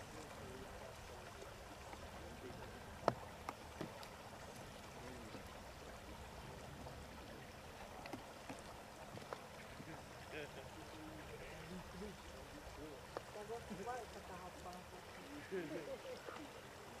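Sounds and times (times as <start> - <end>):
faint distant voices: 0.0 - 17.0
low rumble and hiss: 0.0 - 17.0.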